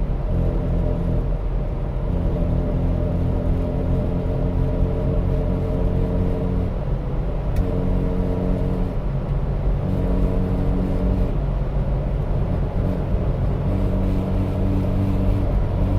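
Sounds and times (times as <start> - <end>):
car driving low rumble: 0.0 - 15.9.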